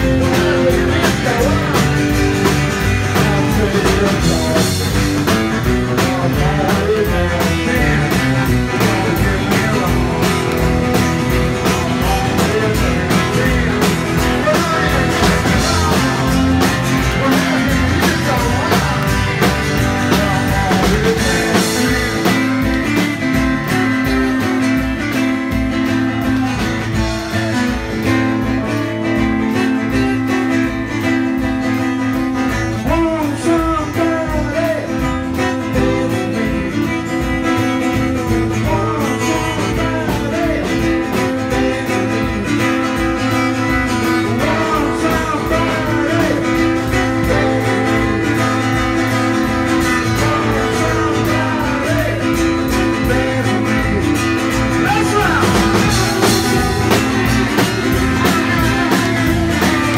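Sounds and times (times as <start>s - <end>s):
acoustic guitar: 0.0s - 59.9s
drum kit beat: 0.0s - 59.9s
electric guitar: 0.0s - 59.9s.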